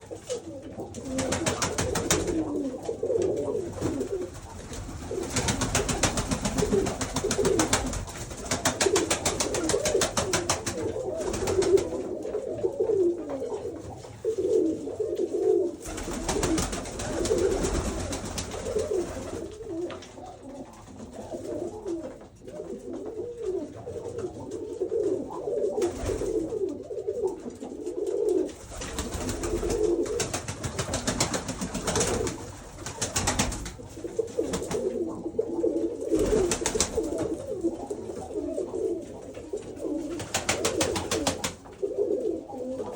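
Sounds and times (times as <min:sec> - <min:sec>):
pigeons cooing: 0:00.0 - 0:42.9.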